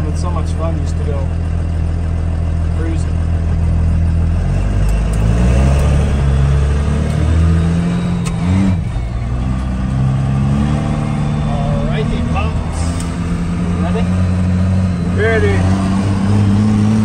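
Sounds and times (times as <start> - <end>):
diesel truck engine accelerating: 0.0 - 17.0.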